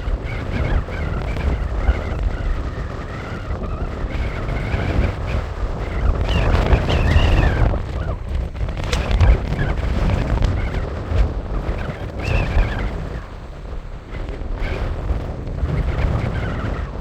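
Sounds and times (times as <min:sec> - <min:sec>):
high-pitched whistling wind howl: 0:00.0 - 0:17.0
wind gusts buffeting microphone: 0:00.0 - 0:17.0.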